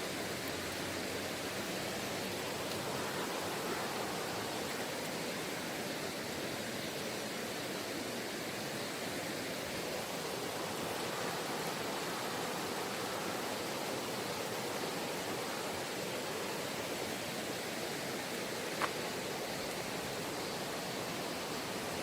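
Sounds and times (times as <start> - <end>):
stream water rushing over rocks: 0.0 - 22.0.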